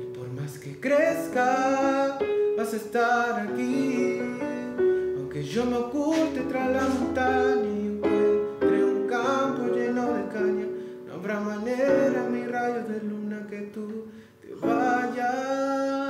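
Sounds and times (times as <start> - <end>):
electronic keyboard chords: 0.0 - 13.5
man singing: 0.0 - 16.0.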